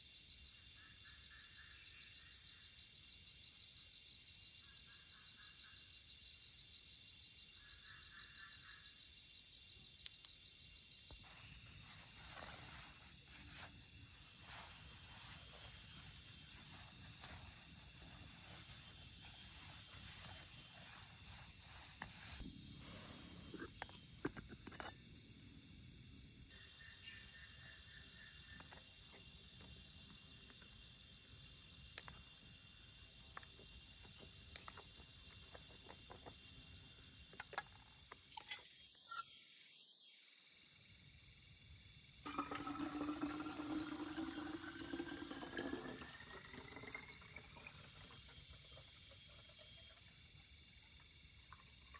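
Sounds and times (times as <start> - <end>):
crickets and insects chirring: 0.0 - 51.9.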